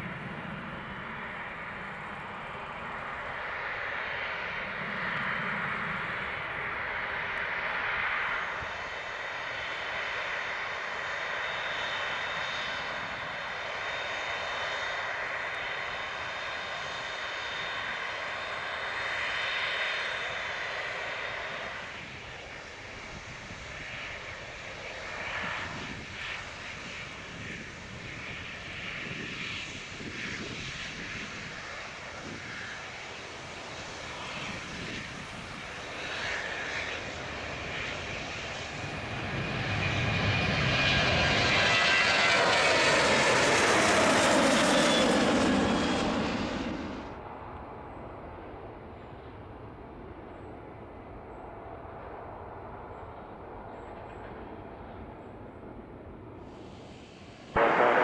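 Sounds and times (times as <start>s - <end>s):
jet engines whining: 0.0s - 47.5s, 56.4s - 58.0s.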